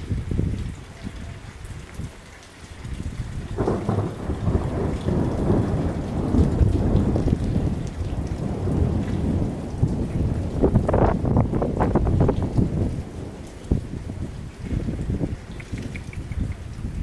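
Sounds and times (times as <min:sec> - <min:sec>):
rain falling: 0:00.0 - 0:17.0
thunder rumbling: 0:03.0 - 0:17.0.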